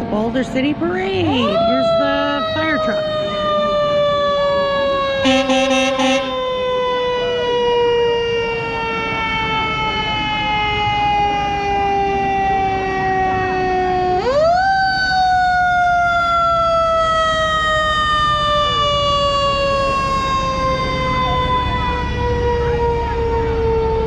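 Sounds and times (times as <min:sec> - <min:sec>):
fire truck siren wailing: 0:00.0 - 0:24.0.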